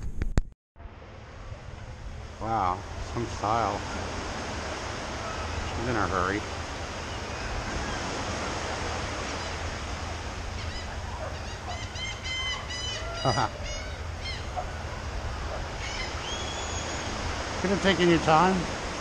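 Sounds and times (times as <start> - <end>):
wind: 0.0 - 19.0
surf: 0.8 - 19.0
birds honking calls: 2.8 - 19.0.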